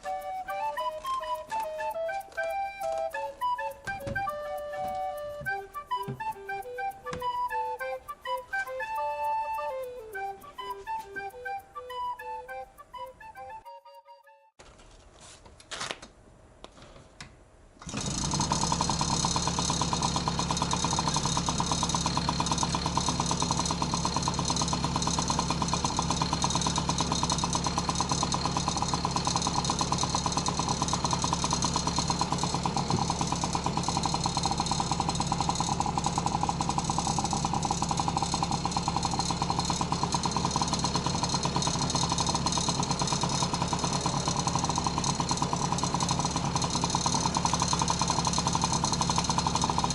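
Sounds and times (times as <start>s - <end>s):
two-stroke engine starting and idling: 0.0s - 13.1s, 17.8s - 49.9s.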